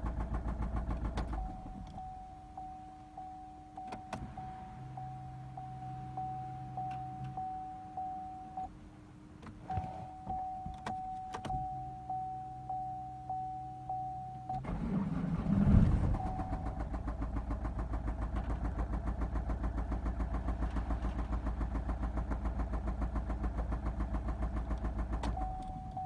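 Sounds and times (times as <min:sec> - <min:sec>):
diesel engine idling with knock: 0:00.0 - 0:08.7, 0:09.3 - 0:12.1, 0:14.5 - 0:26.0
diesel engine cranking and starting: 0:00.0 - 0:12.1, 0:12.7 - 0:26.0.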